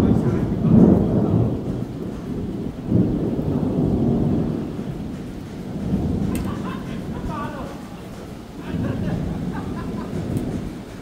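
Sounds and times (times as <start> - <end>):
rain: 0.0 - 11.0
rolling thunder: 0.0 - 11.0.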